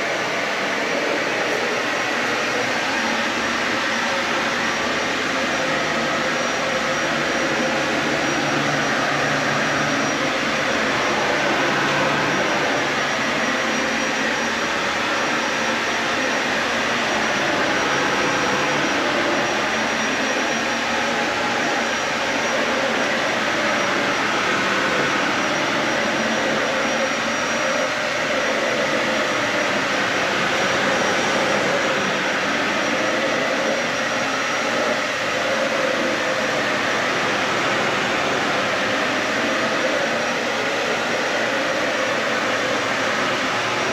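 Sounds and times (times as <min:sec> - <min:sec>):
faint high whine: 0:00.0 - 0:43.9
vacuum cleaner running: 0:00.0 - 0:43.9.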